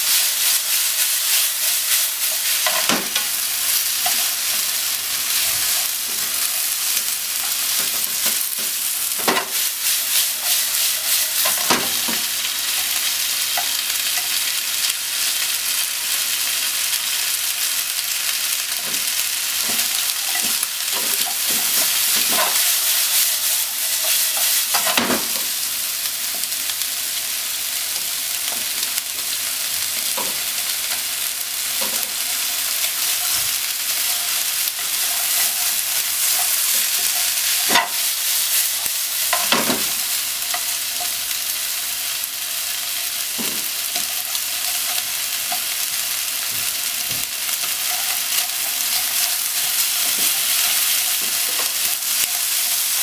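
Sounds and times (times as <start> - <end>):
pork and onion sizzling in pan: 0.0 - 53.0.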